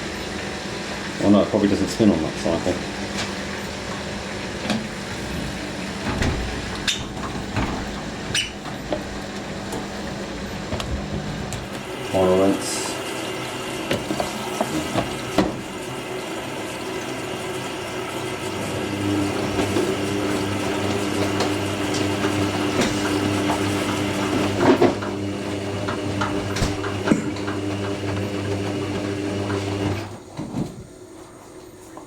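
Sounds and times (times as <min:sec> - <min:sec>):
steady machine hum: 0:00.0 - 0:29.9
washing machine running: 0:00.0 - 0:32.0
water sloshing in washing machine: 0:00.0 - 0:32.0.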